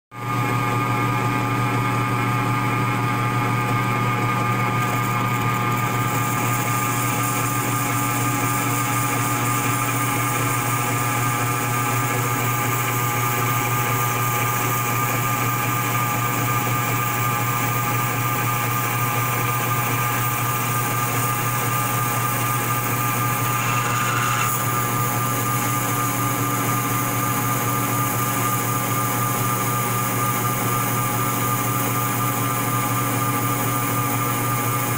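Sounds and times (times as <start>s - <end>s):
metal lathe running: 2.1s - 34.9s
lathe tool cutting hiss: 4.9s - 34.9s.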